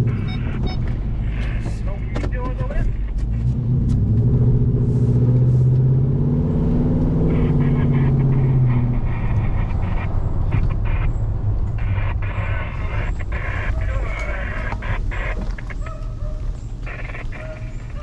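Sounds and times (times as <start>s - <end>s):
truck engine accelerating: 0.0s - 18.0s.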